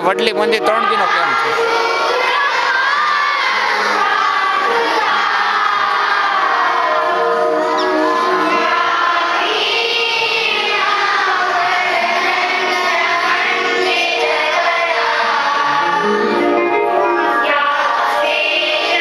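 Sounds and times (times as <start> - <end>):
accompanying music: 0.0 - 19.0
children singing in chorus: 0.6 - 19.0.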